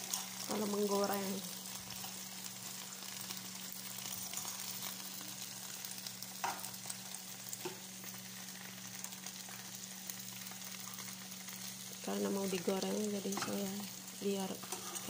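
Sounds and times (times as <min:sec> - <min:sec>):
greens sizzling in hot oil: 0:00.0 - 0:15.0.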